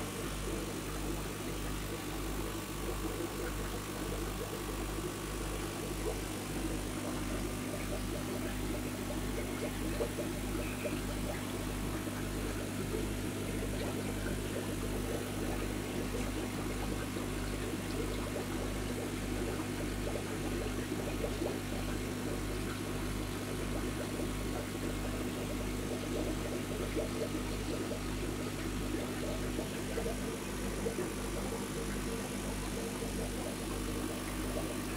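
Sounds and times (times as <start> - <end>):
aquarium pumps humming: 0.0 - 34.9.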